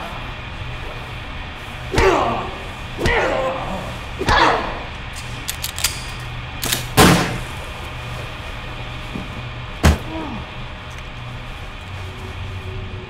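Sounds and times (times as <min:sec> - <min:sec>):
low film score drone: 0:00.0 - 0:13.0.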